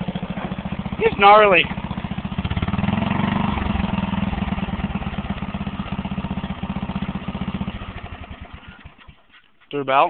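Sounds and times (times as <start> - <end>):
riding lawn mower engine running: 0.0 - 9.5.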